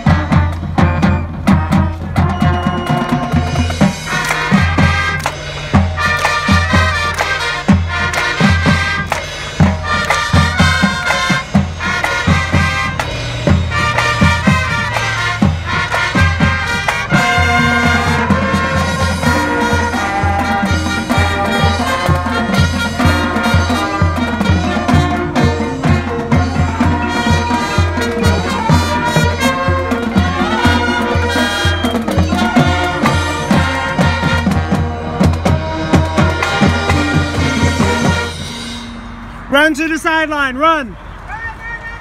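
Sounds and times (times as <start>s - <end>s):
brass playing: 0.0s - 40.5s
drumline beat: 0.0s - 40.8s.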